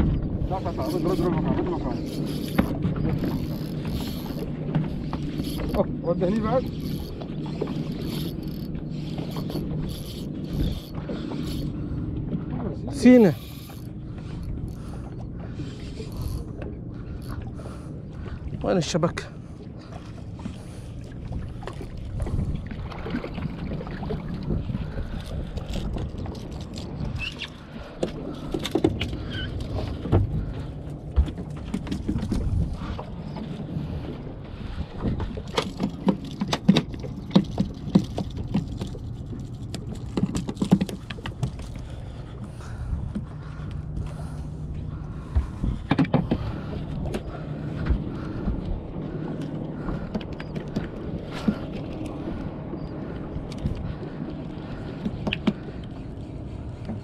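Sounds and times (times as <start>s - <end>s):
wind buffeting microphone: 0.0s - 18.6s, 19.4s - 57.0s
boat motor idling: 0.0s - 57.0s.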